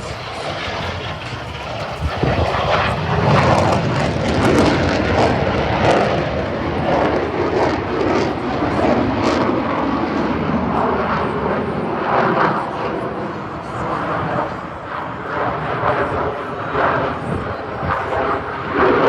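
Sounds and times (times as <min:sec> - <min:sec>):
airplane engine: 0:00.0 - 0:19.0.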